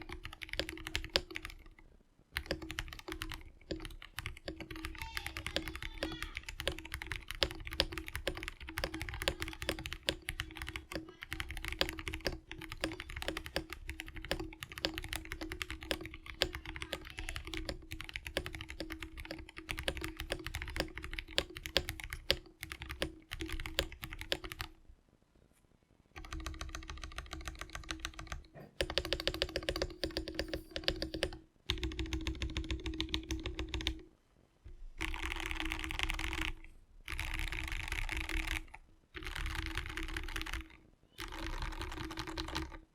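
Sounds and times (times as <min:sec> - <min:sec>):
mechanical keyboard typing: 0:00.0 - 0:01.8, 0:02.4 - 0:24.8, 0:26.2 - 0:34.1, 0:35.0 - 0:42.9.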